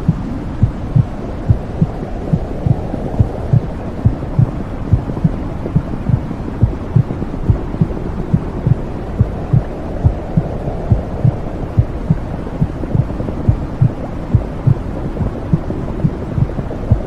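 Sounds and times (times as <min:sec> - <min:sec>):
heartbeat thumps: 0:00.0 - 0:17.0
low whooshing rumble: 0:00.0 - 0:17.0.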